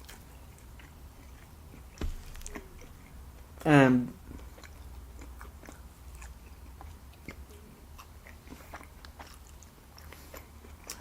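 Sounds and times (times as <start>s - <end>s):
person chewing food: 0.0s - 3.6s, 4.2s - 11.0s
low steady hum: 0.0s - 11.0s.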